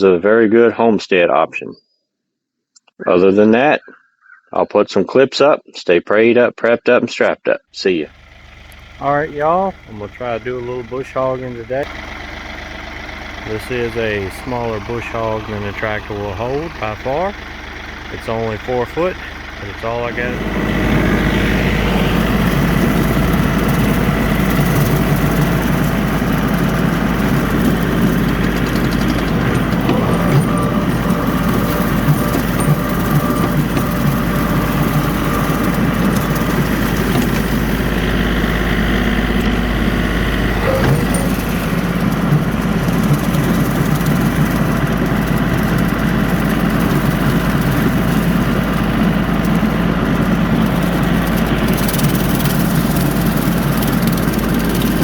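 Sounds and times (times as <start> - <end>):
tractor diesel engine running: 7.9 - 55.0.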